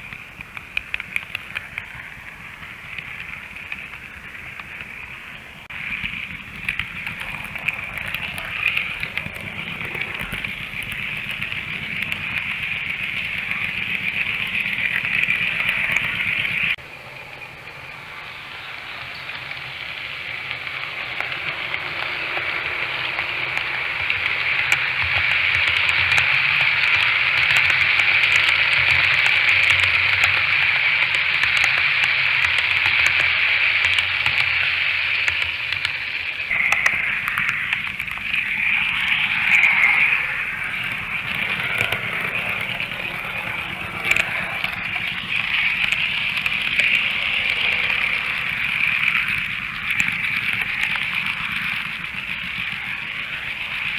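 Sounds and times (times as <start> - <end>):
model train rolling on track: 0.0 - 53.9.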